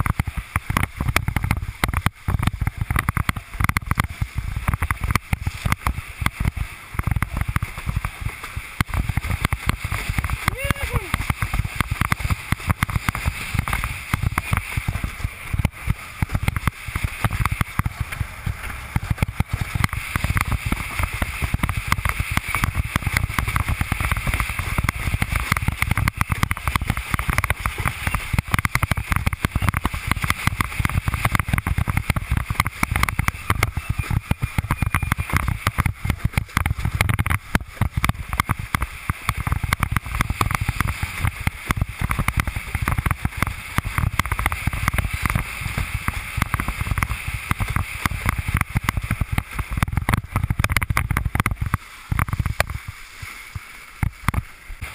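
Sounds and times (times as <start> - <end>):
water splashing against hull: 0.0 - 54.9.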